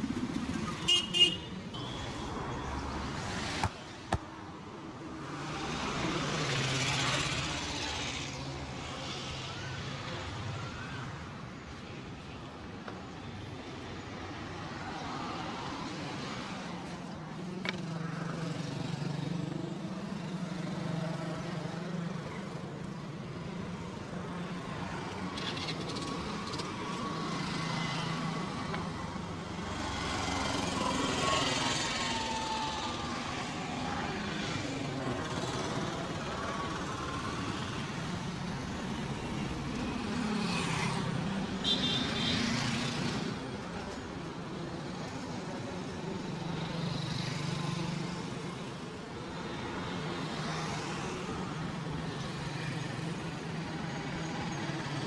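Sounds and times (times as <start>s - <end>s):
road noise: 0.0s - 55.0s.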